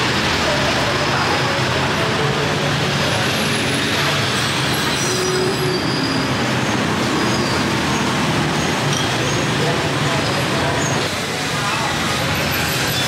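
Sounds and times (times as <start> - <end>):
hum of a street-food stall: 0.0 - 13.0
roadside traffic noise: 0.0 - 13.0.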